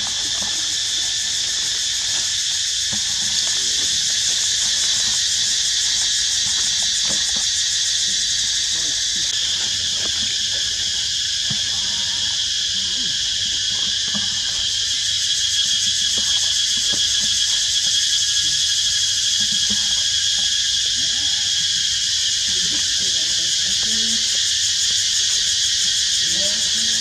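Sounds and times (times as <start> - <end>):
shrill insect chorus: 0.0 - 27.0.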